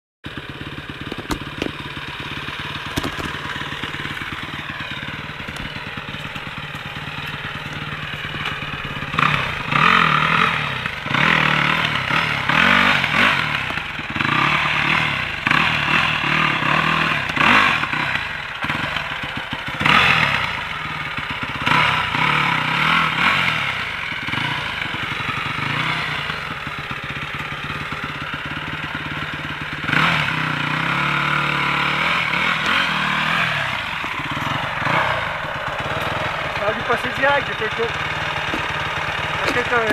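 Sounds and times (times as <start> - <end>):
dirt bike engine revving: 0.3 - 39.9.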